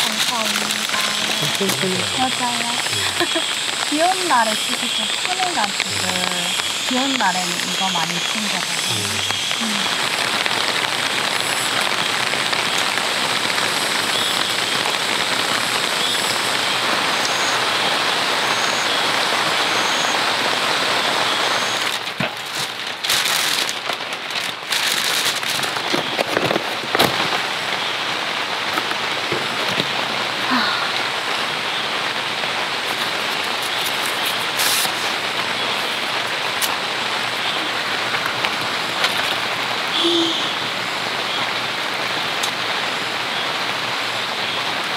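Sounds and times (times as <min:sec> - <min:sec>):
heavy rain on tent: 0:00.0 - 0:44.9.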